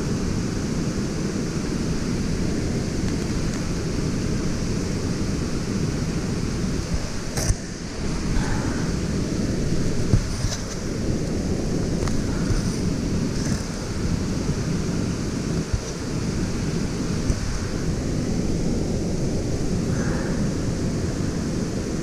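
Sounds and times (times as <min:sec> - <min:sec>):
waterfall rushing: 0:00.1 - 0:22.0.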